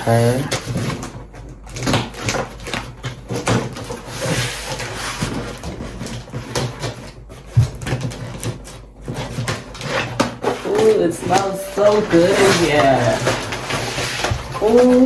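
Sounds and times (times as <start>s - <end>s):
cardboard box rustling: 0.5s - 15.0s.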